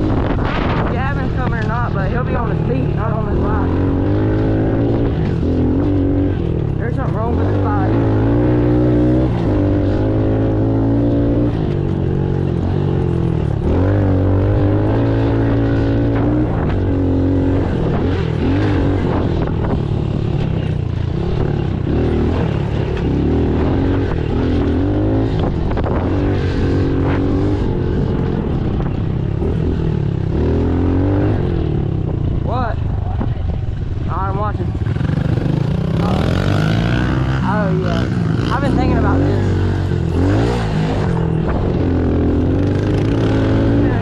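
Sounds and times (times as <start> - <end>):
pit bike engine revving: 0.0 - 44.0.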